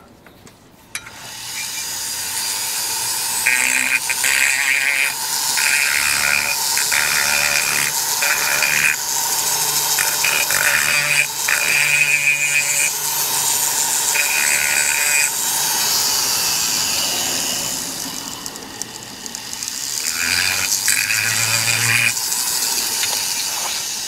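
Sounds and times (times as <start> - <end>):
grinder bit cutting metal: 1.0 - 24.0
pencil grinder hissing: 1.1 - 24.0.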